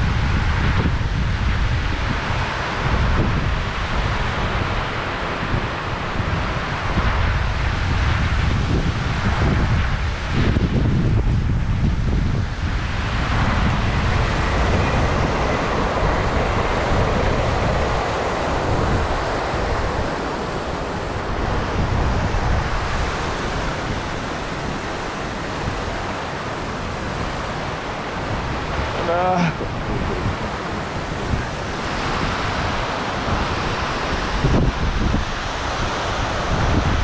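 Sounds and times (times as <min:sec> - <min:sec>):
steady rushing hiss: 0:00.0 - 0:37.0
wind buffeting microphone: 0:00.0 - 0:37.0.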